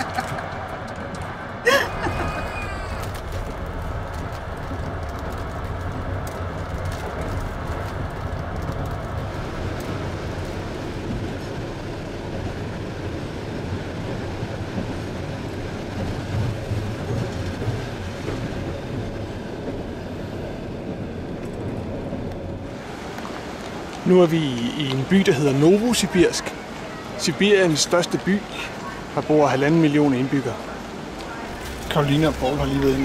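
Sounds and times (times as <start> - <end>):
train rumbling on rails: 0.0 - 33.0.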